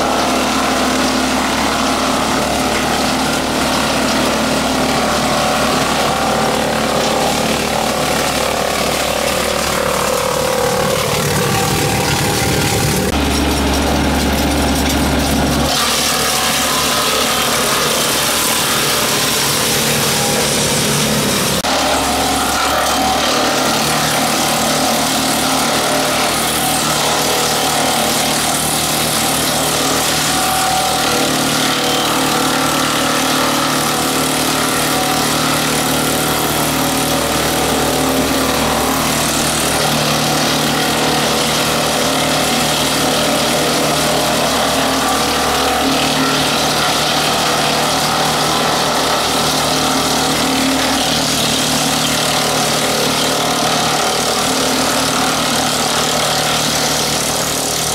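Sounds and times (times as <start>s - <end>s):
tractor engine driving wood chipper: 0.0s - 57.9s.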